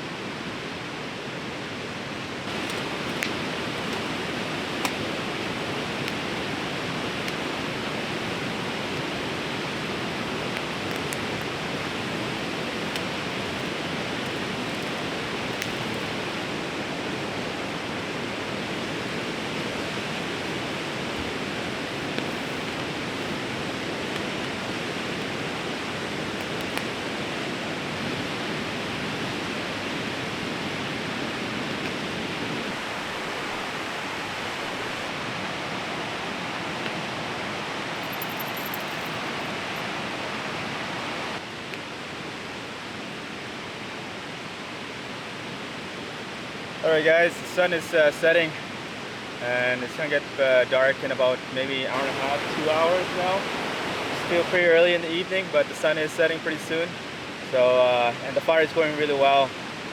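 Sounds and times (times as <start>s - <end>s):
fast-flowing river rushing: 0.0s - 59.9s.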